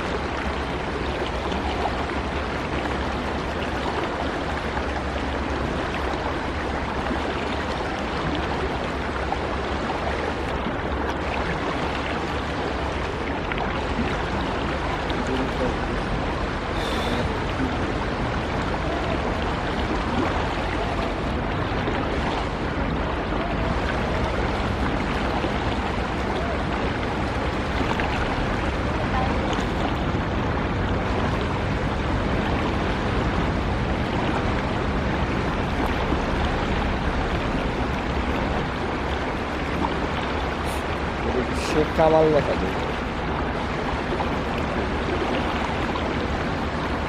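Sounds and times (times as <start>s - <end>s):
faint low engine hum: 0.0s - 47.0s
water and wind rushing: 0.0s - 47.0s.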